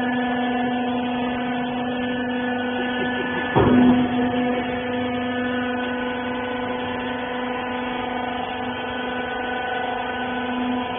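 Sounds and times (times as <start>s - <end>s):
electric motor and hydraulic pump hum: 0.0s - 10.9s.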